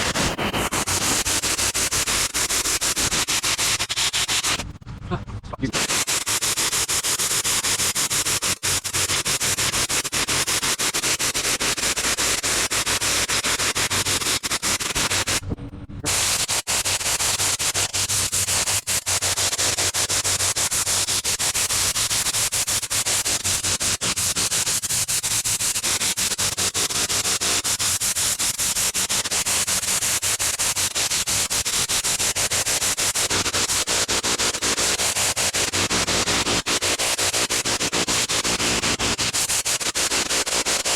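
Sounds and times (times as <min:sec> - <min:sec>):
pressure washer spraying concrete: 0:00.0 - 0:04.6, 0:05.7 - 0:15.4, 0:16.1 - 0:40.9.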